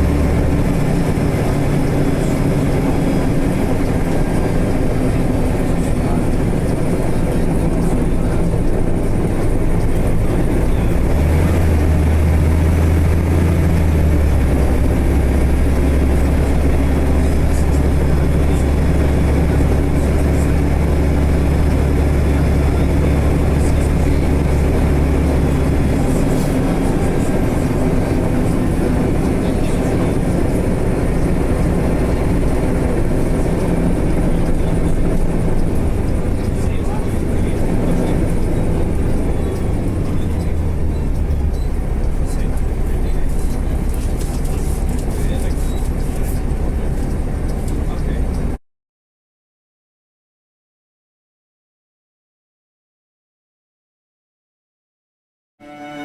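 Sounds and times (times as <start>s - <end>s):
deep drone: 0.0s - 48.4s, 55.6s - 56.0s
steady vehicle noise: 0.0s - 48.6s.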